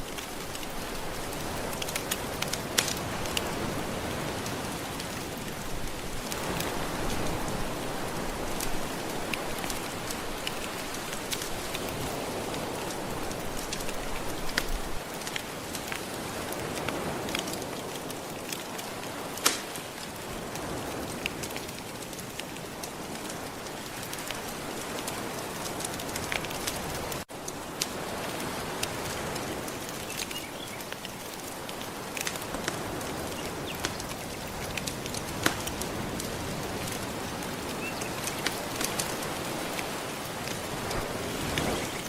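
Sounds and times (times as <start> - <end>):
ocean waves: 0.0 - 30.3, 31.2 - 42.0
wood fire crackling and popping: 0.0 - 42.0.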